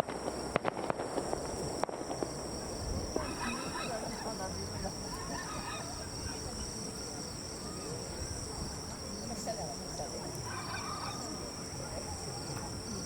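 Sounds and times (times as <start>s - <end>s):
insects chirring: 0.0s - 13.0s
people talking faintly: 1.9s - 13.0s.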